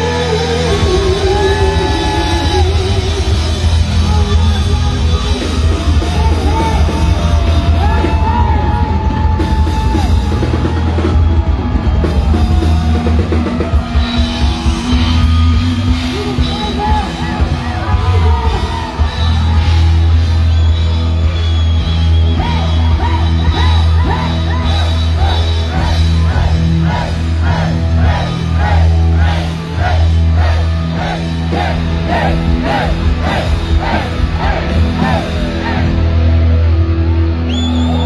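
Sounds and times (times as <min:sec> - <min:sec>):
crowd yelling: 0:00.0 - 0:38.0
heavy metal band playing live: 0:00.0 - 0:38.0.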